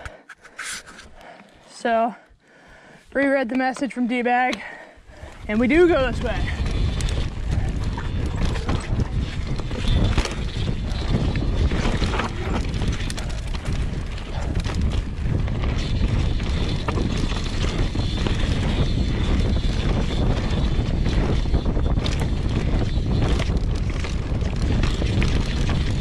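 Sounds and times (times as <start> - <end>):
bike knocking and rattling: 3.5 - 26.0
wind buffeting microphone: 4.6 - 26.0
bike tyres rumbling over dirt: 4.7 - 26.0.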